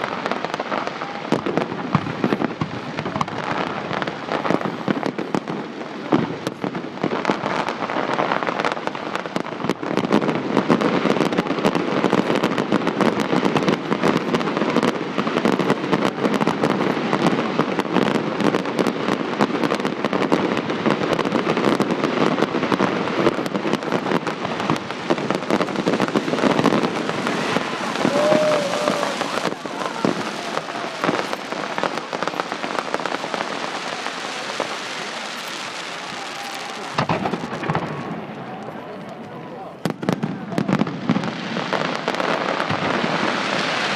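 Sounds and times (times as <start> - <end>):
fireworks banging and crackling: 0.0 - 43.9.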